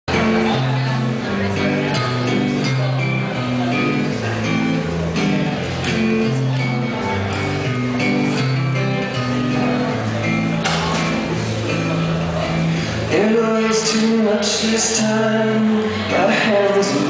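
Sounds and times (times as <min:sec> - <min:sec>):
acoustic guitar strumming: 0:00.1 - 0:17.0.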